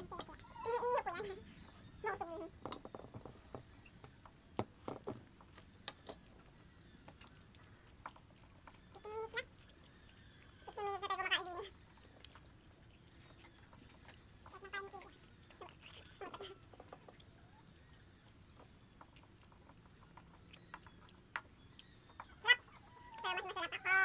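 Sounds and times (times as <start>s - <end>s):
faint eating clicks: 0.0s - 24.0s.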